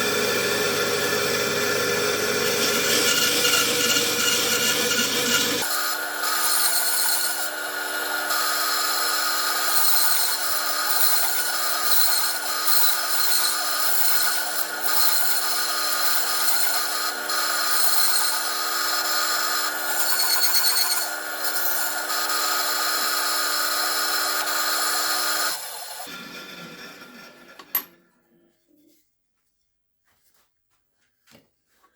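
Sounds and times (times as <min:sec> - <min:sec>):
power tool motor whine: 0:00.0 - 0:27.9.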